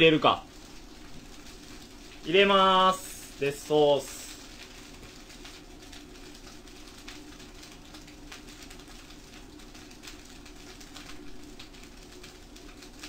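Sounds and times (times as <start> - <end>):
low gas flame hum: 0.0 - 13.0
rice sizzling in a wok: 0.0 - 13.0.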